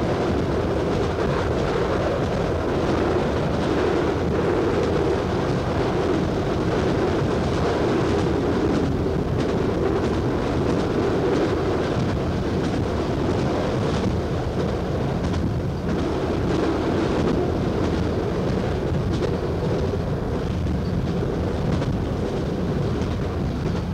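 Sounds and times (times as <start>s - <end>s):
train engine and wheels on rail: 0.0s - 23.9s.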